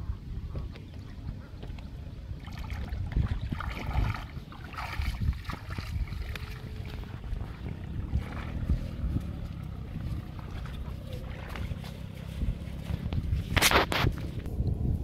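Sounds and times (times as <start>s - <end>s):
wind rumble on microphone: 0.0s - 15.0s
wading and splashing in water: 0.5s - 14.5s.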